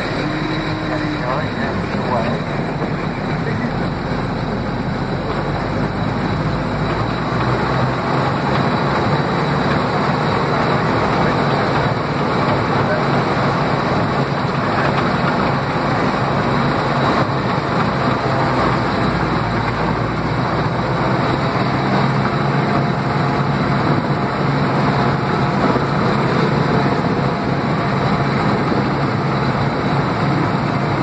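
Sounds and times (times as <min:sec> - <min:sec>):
tank engine running: 0:00.0 - 0:31.0.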